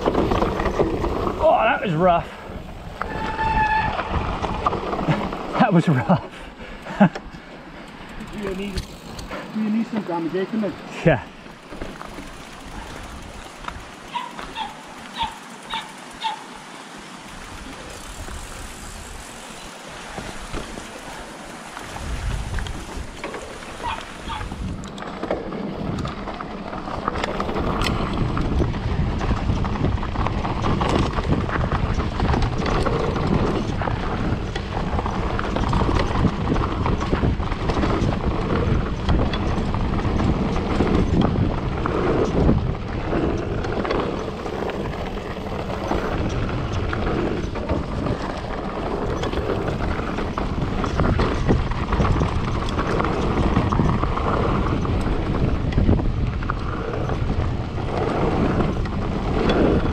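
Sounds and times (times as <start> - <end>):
wind buffeting microphone: 0.0 - 14.2, 17.4 - 59.9
bike frame and chain rattling: 0.0 - 59.9
bike tyres rumbling over rocks: 0.0 - 59.9.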